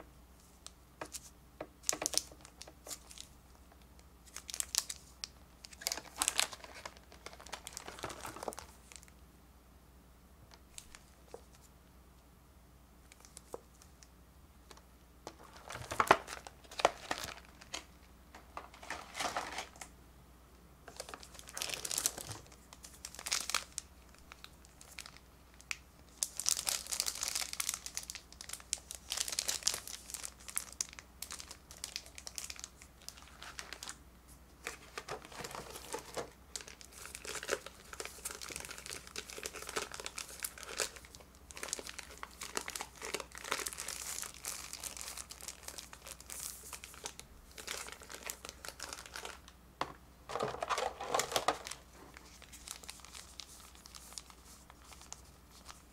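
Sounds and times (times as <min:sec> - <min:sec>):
plastic packaging crinkling: 0:00.6 - 0:03.4, 0:04.2 - 0:09.1, 0:15.3 - 0:19.9, 0:20.9 - 0:34.0, 0:34.6 - 0:49.6, 0:50.3 - 0:55.9.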